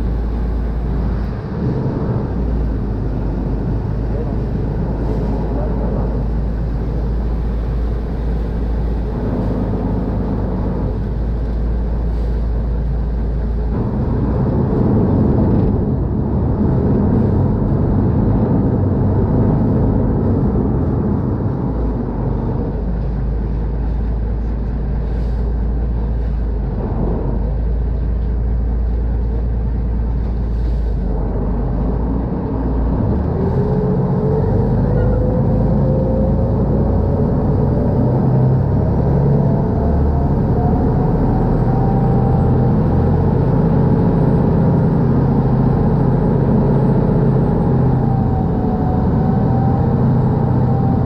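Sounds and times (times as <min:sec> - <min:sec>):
boat diesel engine running: 0:00.0 - 0:51.0
water churning along hull: 0:00.0 - 0:51.0.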